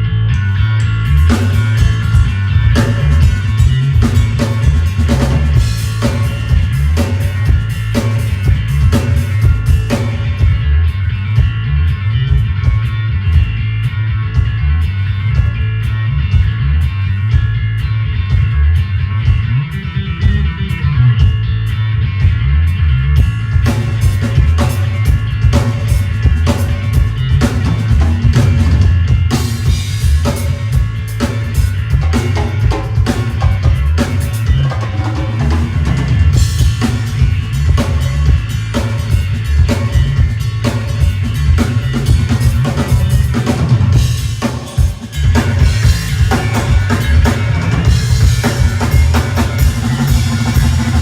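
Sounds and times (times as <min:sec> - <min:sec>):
drums: 0:00.0 - 0:51.0
electric guitar: 0:00.0 - 0:51.0
loud bass line: 0:00.0 - 0:51.0
rock band playing live: 0:00.0 - 0:51.0.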